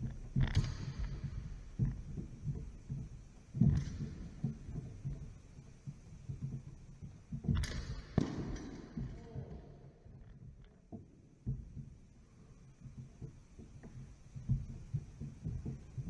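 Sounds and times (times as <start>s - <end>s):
feet thumping on wooden floor: 0.0s - 9.6s, 12.8s - 16.0s.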